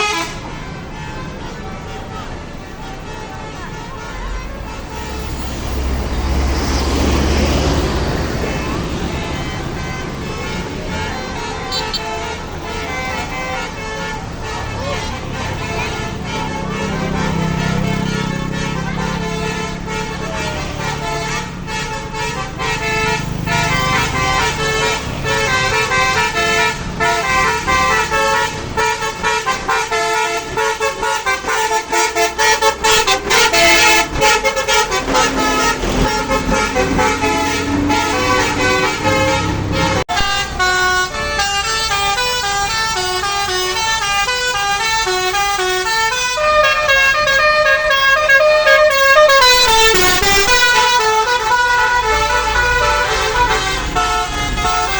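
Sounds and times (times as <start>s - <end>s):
bus engine running: 0.0s - 54.9s
bus horn melodic tune: 0.0s - 54.9s.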